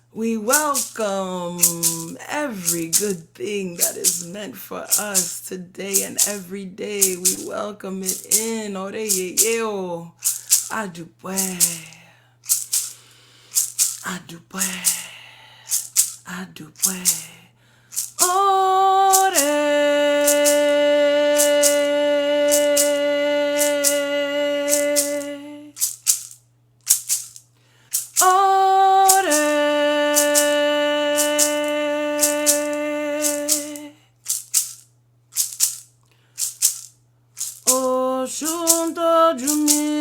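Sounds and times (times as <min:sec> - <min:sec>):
woman chanting: 0:00.0 - 0:12.2, 0:14.0 - 0:25.8, 0:28.2 - 0:34.1, 0:37.6 - 0:40.0
hand rattle shaking: 0:00.5 - 0:15.1, 0:15.7 - 0:40.0.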